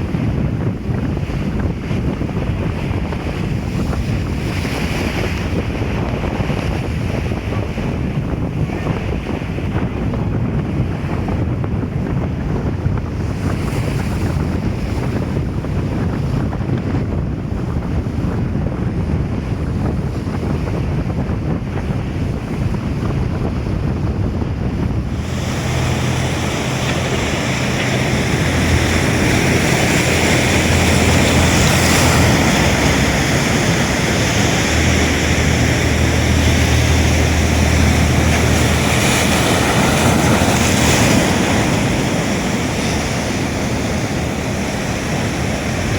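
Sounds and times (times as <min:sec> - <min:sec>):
ocean surf breaking: 0:00.0 - 0:45.9
wind buffeting microphone: 0:00.0 - 0:45.9
low rumble: 0:02.0 - 0:45.9.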